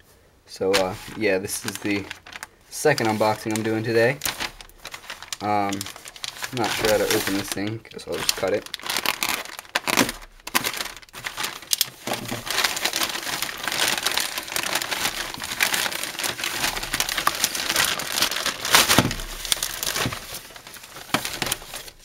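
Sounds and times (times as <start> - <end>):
packaging crinkling and rustling: 0.6 - 22.0
sharp crackles and snaps: 0.8 - 22.0.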